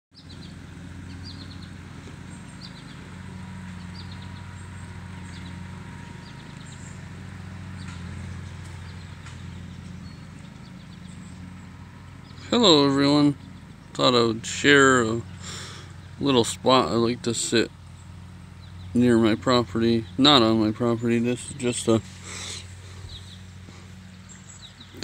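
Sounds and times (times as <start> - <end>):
small birds chirping: 0.1 - 25.0
low mechanical hum: 0.2 - 25.0.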